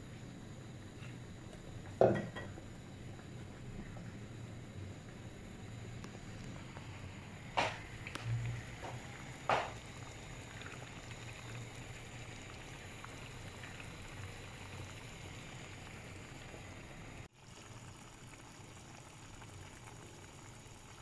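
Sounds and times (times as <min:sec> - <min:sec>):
sauce bubbling in a frying pan: 0:00.0 - 0:21.0.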